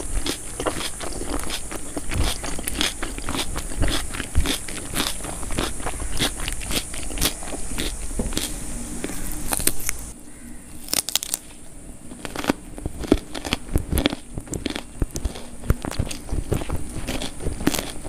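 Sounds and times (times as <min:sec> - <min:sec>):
chewing: 0:00.0 - 0:10.0, 0:10.8 - 0:18.0
fingers squishing rice: 0:00.0 - 0:10.1, 0:10.8 - 0:18.0.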